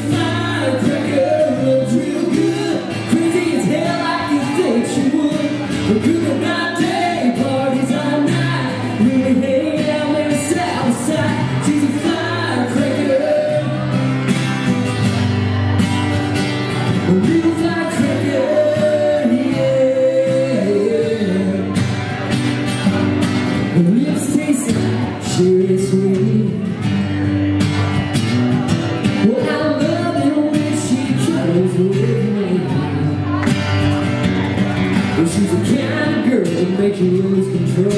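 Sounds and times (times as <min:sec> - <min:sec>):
man singing: 0:00.0 - 0:14.4, 0:16.8 - 0:22.3, 0:23.5 - 0:27.3, 0:29.0 - 0:33.4, 0:35.1 - 0:37.9
acoustic guitars strumming: 0:00.0 - 0:37.9.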